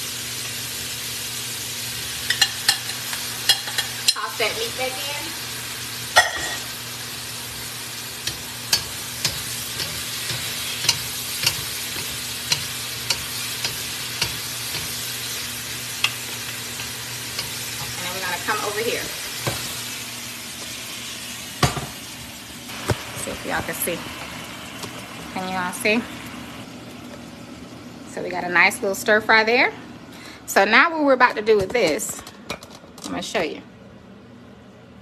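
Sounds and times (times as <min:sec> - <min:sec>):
food sizzling in a wok: 0:00.0 - 0:29.4.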